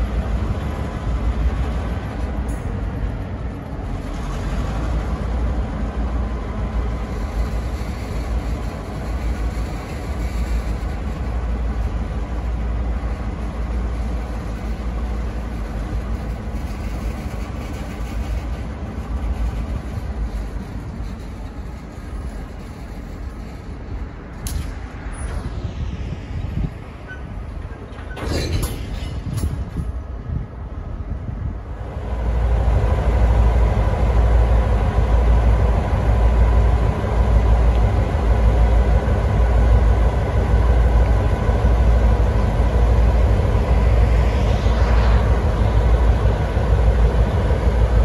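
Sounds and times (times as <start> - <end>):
diesel locomotives rumbling: 0.0 - 48.0
train wheels rolling over rails: 0.0 - 48.0.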